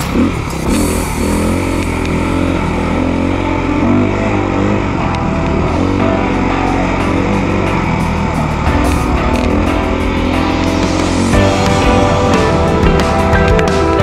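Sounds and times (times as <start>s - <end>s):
dirt bike engine running: 0.0s - 14.0s
rock music with electric guitar: 0.0s - 14.0s.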